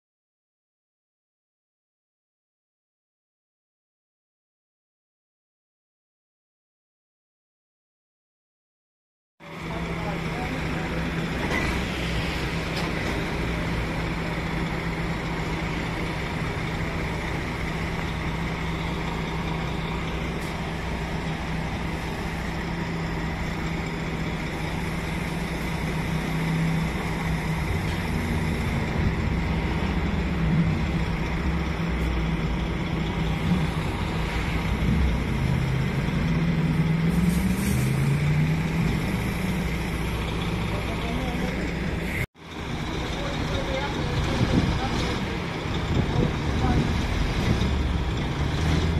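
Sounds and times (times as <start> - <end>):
crane truck engine humming: 9.4 - 48.9.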